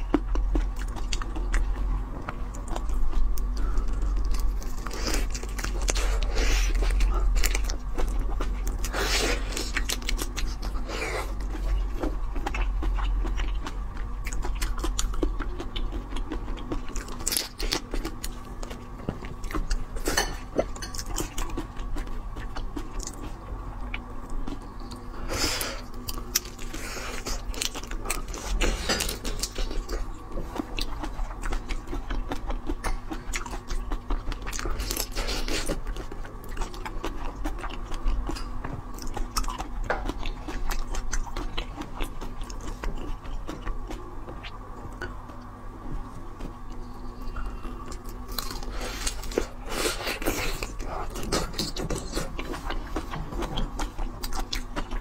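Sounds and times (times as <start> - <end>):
chewing crunchy shrimp shells: 0.0 - 55.0.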